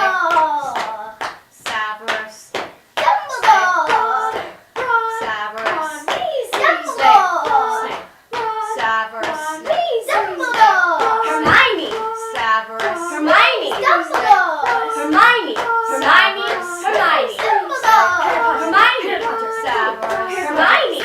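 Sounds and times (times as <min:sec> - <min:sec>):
hand claps and slaps: 0:00.0 - 0:21.0
young voices chanting a song: 0:00.0 - 0:21.0.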